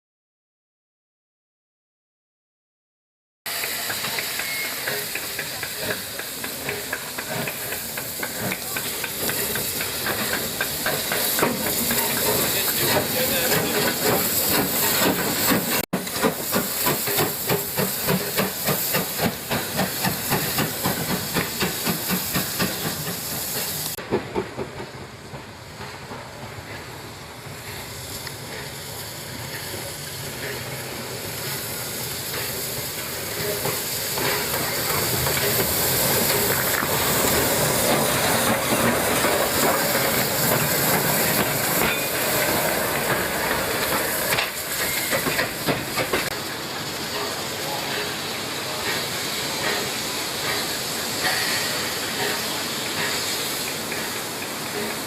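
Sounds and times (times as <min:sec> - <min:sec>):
steam hissing: 0:03.5 - 0:55.0
steam locomotive chuffing: 0:03.5 - 0:55.0
train noise: 0:03.5 - 0:55.0.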